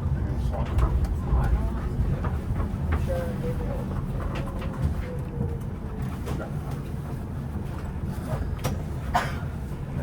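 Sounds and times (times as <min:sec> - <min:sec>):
tram low rumble: 0:00.0 - 0:10.0.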